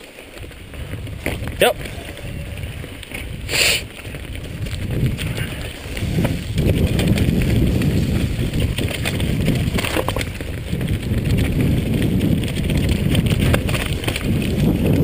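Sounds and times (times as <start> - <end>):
bike clicks and rattles: 0.0 - 15.0
tyres on dirt: 0.0 - 15.0
wind on microphone: 0.0 - 15.0.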